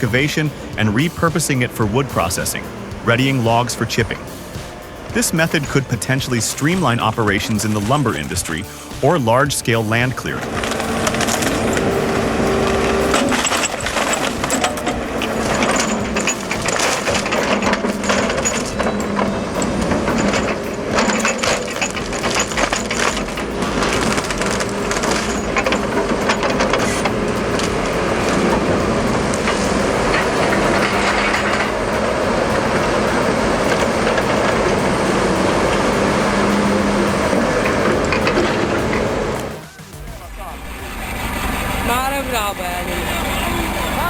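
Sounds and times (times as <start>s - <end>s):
logs cracking and splintering: 0.0s - 40.1s
grinding and crushing noise: 0.0s - 41.8s
machine engine hum: 0.0s - 44.0s.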